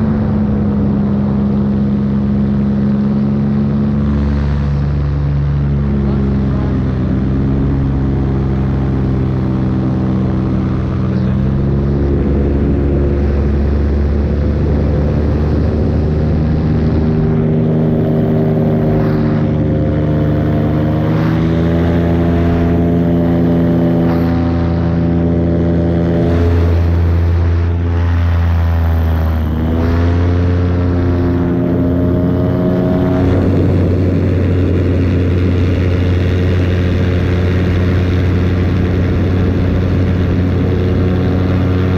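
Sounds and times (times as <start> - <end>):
paramotor engine and propeller: 0.0 - 41.9.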